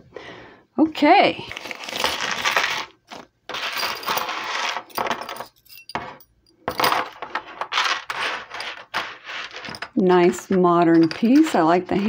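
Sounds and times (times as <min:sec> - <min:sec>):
metal jewelry clinking: 0:01.5 - 0:12.0.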